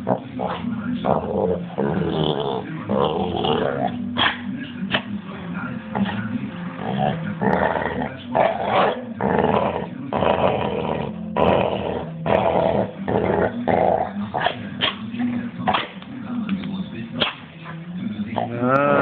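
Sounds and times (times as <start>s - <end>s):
dog growling: 0.0s - 5.1s, 5.8s - 15.1s, 17.2s - 19.0s.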